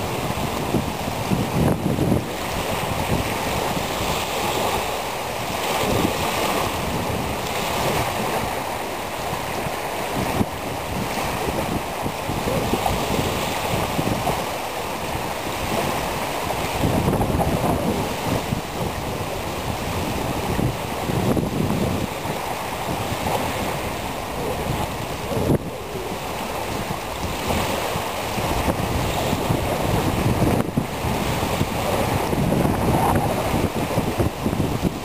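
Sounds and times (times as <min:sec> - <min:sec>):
waves splashing on shore: 0:00.0 - 0:35.0
wind buffeting microphone: 0:00.0 - 0:35.0.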